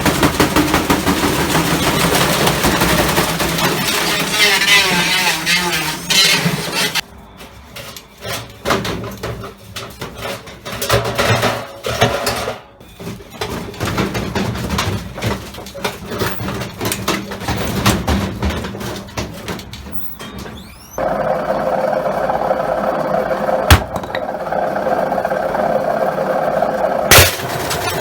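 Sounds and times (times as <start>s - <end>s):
objects banging in washing machine: 0.0s - 6.7s, 7.8s - 22.6s, 23.3s - 24.7s, 26.8s - 28.0s
washing machine hum: 0.0s - 28.0s.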